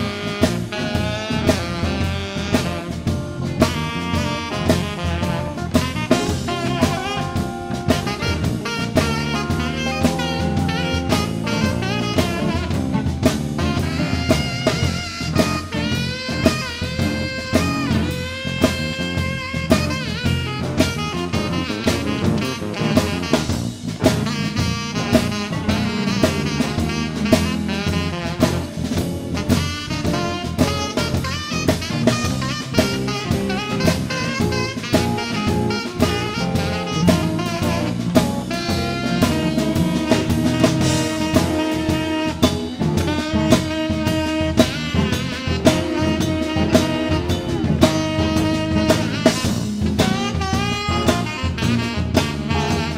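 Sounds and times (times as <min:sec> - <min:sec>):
drum kit beat: 0:00.0 - 0:52.9
live blues band playing: 0:00.0 - 0:52.9
saxophone melody: 0:00.0 - 0:52.9.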